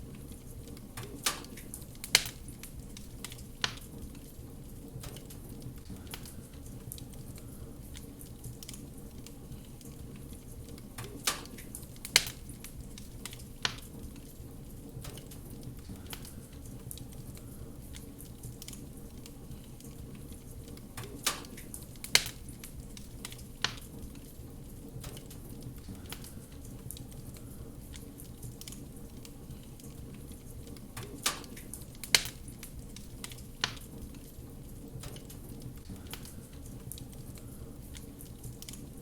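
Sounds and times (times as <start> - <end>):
wood fire crackling: 0.0 - 39.0
sharp fire pops: 0.4 - 10.0, 10.7 - 14.4, 15.0 - 38.9.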